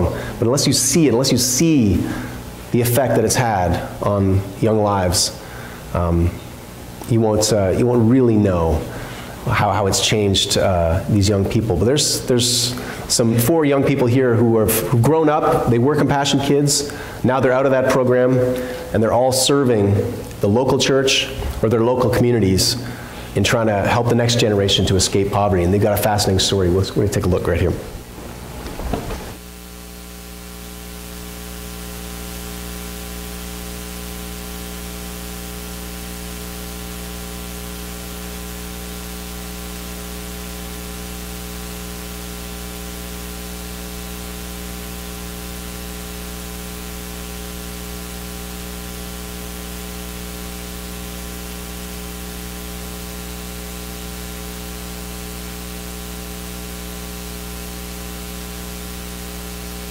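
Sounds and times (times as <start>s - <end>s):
constant hiss: 0.0s - 59.9s
electrical mains hum: 0.0s - 59.9s.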